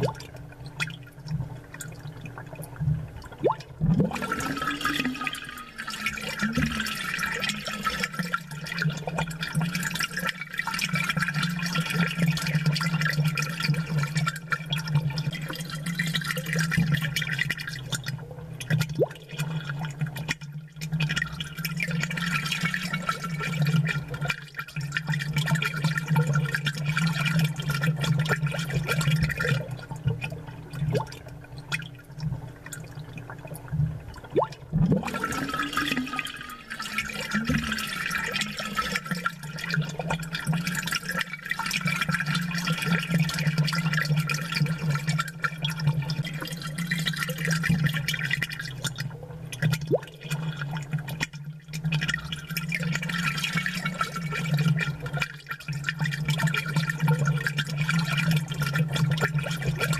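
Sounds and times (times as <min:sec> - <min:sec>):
aquarium water bubbling: 0:00.0 - 0:59.9
low steady hum: 0:00.0 - 0:59.9.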